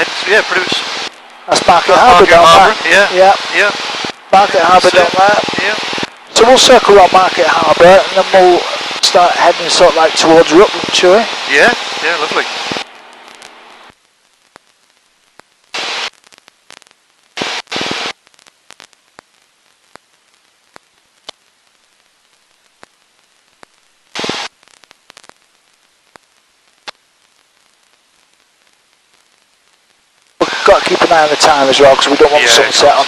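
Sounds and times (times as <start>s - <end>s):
static hiss bursts: 0.0s - 33.0s.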